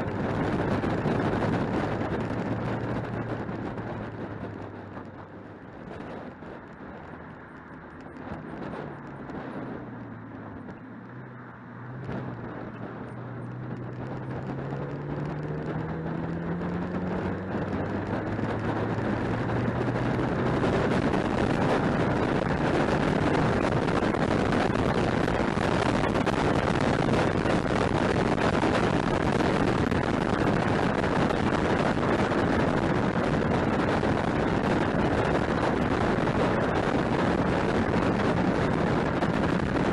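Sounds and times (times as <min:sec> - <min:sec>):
car engine accelerating: 0:00.0 - 0:39.9
tyre and wind rush: 0:00.0 - 0:39.9.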